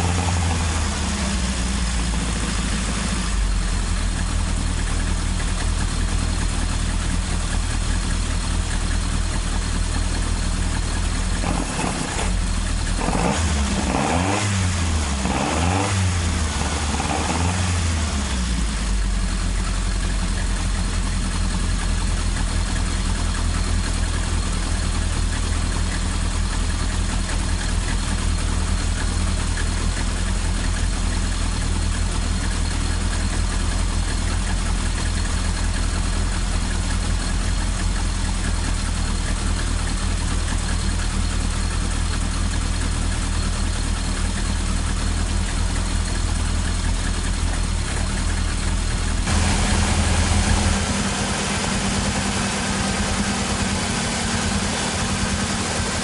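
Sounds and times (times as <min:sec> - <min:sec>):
four-cylinder engine revving and idling: 0:00.0 - 0:56.0.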